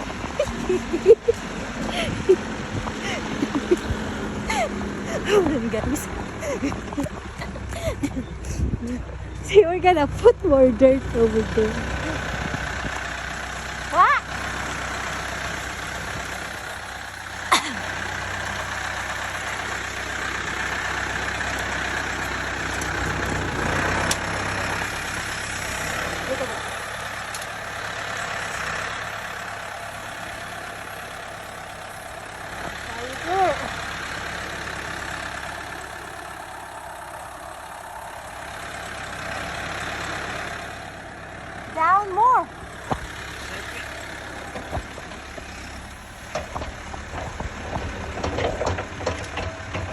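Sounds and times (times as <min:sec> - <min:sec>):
backhoe engine running: 0:00.0 - 0:49.9.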